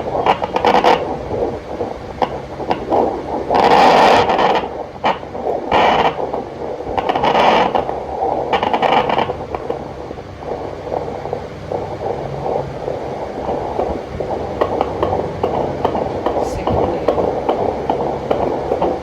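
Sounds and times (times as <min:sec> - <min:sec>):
doppler monitor speaker hissing: 0:00.0 - 0:19.0.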